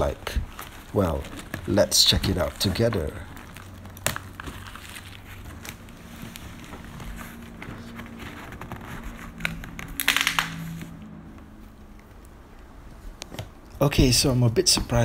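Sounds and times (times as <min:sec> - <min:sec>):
tape and cardboard crinkling: 0:00.0 - 0:13.6.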